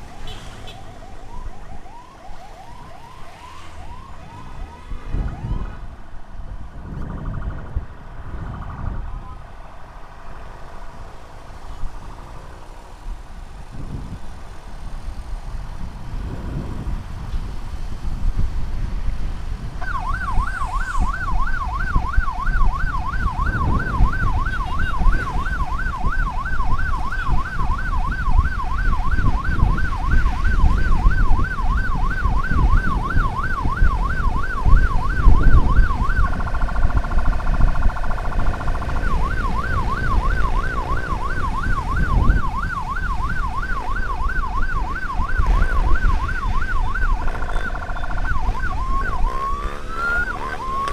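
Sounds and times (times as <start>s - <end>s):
emergency vehicle siren: 0.0s - 13.2s, 19.8s - 50.9s
road and wind noise: 0.0s - 50.9s.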